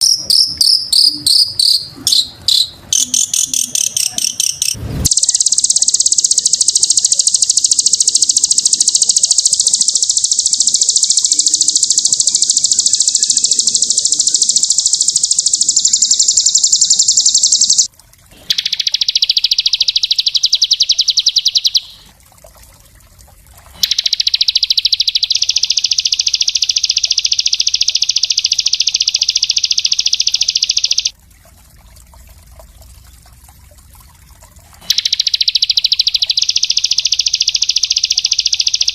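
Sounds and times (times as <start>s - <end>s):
songbird trilling: 0.0s - 17.9s, 18.5s - 22.0s, 23.8s - 31.1s, 34.9s - 38.9s.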